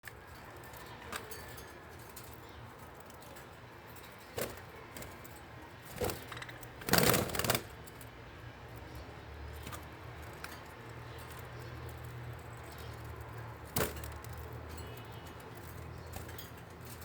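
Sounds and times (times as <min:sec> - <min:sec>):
birds jingling rattling bursts: 0:00.2 - 0:17.0.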